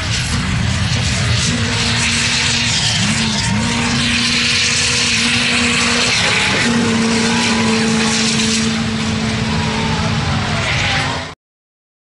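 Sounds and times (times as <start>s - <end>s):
truck engine at high revs: 0.0s - 11.4s.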